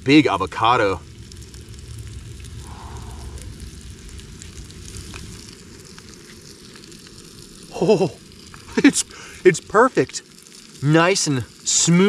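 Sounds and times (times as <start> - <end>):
food sizzling in pan: 0.0 - 12.0
gas burner flame: 0.0 - 12.0.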